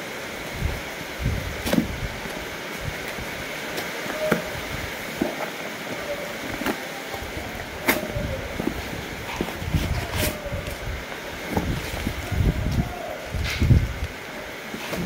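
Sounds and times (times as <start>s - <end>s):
steady hiss: 0.0s - 15.0s
cardboard crackles and taps: 1.5s - 15.0s.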